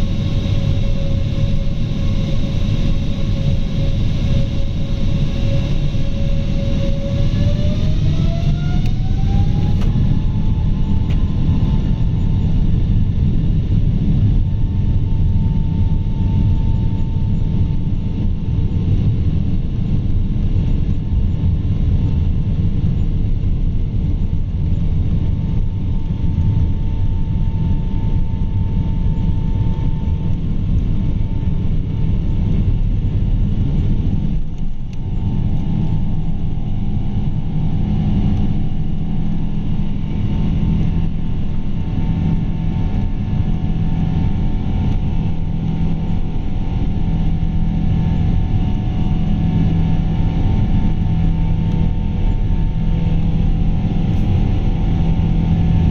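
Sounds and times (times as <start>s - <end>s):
jet engines at high power: 0.0s - 55.9s.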